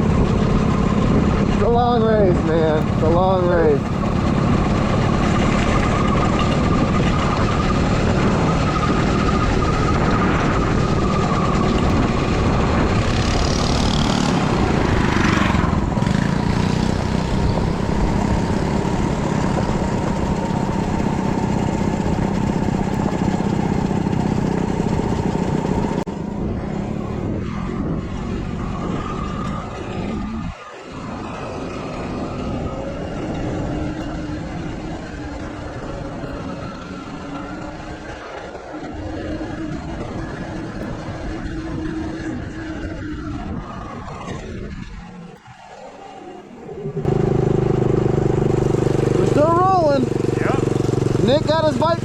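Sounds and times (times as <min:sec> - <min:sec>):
small engine humming: 0:00.0 - 0:52.0
wind and road noise: 0:00.0 - 0:52.0.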